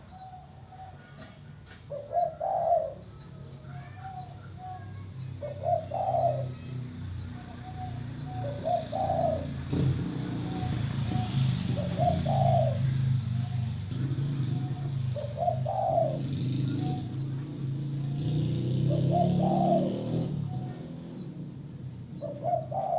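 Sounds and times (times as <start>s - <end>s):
dove cooing: 0.0s - 22.9s.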